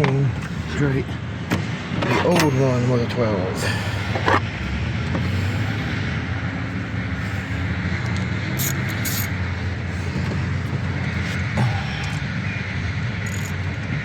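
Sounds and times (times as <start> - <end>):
low mechanical drone: 0.0 - 14.0.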